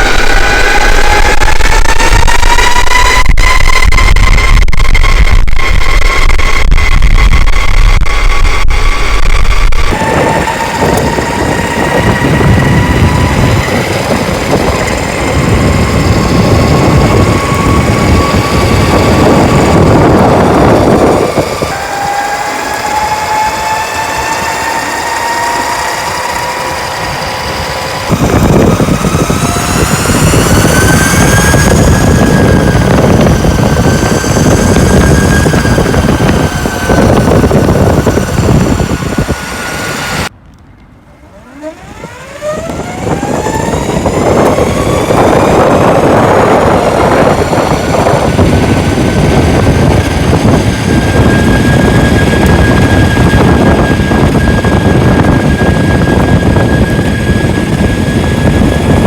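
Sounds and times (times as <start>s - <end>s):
electric skateboard motor whining: 0.0s - 40.3s, 40.9s - 59.0s
rushing wind: 0.0s - 59.0s
wheel noise: 0.0s - 59.0s.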